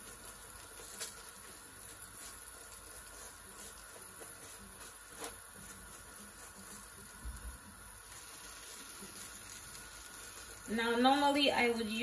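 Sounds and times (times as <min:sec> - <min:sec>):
bread sizzling in frying pan: 0:00.0 - 0:12.0.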